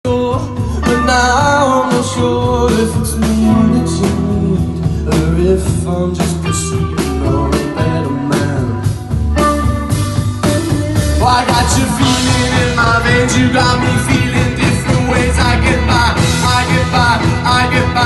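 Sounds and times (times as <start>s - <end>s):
person singing: 0.0s - 9.2s, 9.8s - 18.0s
guitar: 0.0s - 18.0s
steady drum beat: 0.1s - 18.0s.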